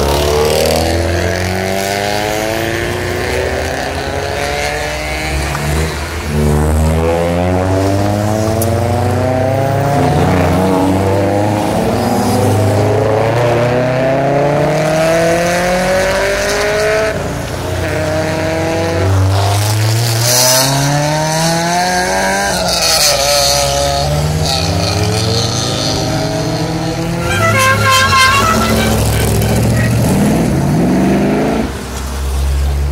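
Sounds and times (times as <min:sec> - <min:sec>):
cars accelerating past: 0:00.0 - 0:32.9.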